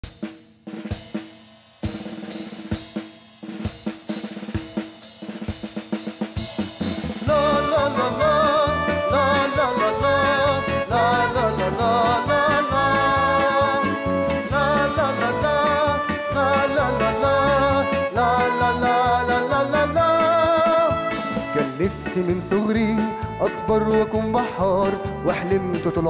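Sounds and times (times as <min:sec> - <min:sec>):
live band playing: 0:01.8 - 0:26.0.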